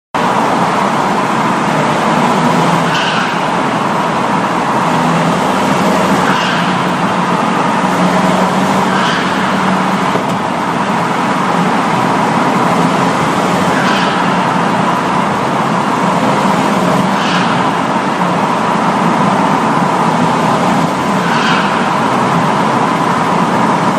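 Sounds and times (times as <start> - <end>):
road noise: 0.1 - 23.9
loud car exhaust drone: 0.2 - 23.9.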